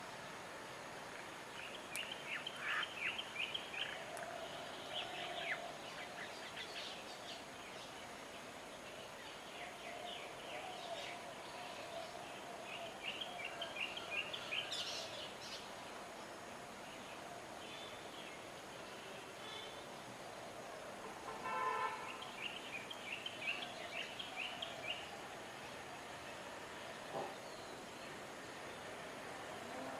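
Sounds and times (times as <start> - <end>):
steady background noise: 0.0 - 29.9.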